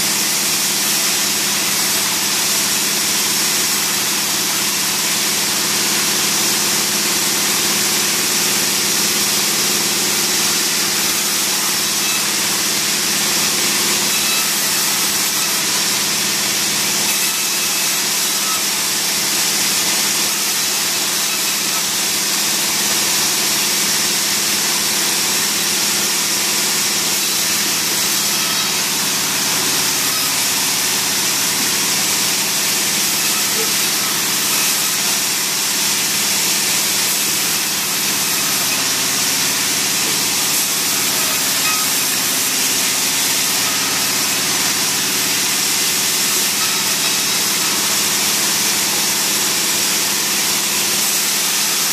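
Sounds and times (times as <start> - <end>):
log-sawing machine running: 0.0 - 51.9.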